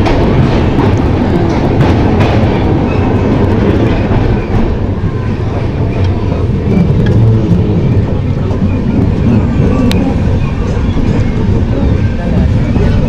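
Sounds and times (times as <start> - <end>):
rail clicks: 0.0 - 13.0
train rumbling on track: 0.0 - 13.0.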